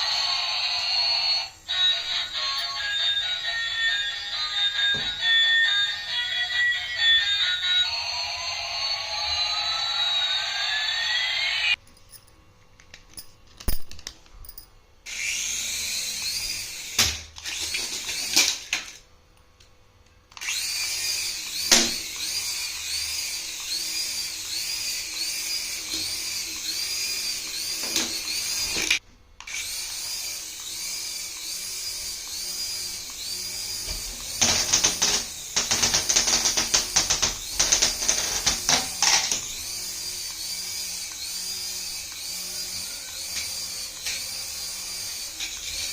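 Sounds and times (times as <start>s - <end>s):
small electric motor whining: 0.0s - 11.8s, 15.1s - 18.8s, 20.3s - 45.9s.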